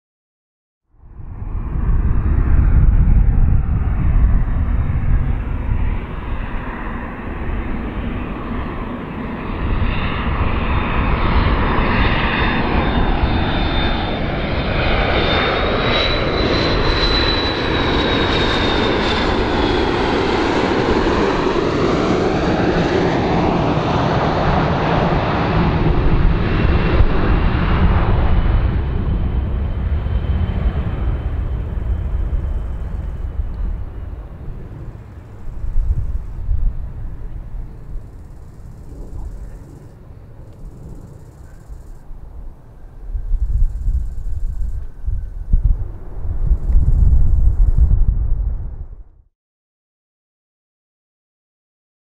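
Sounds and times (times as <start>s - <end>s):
jet engine rumble and whine: 0.9s - 49.3s.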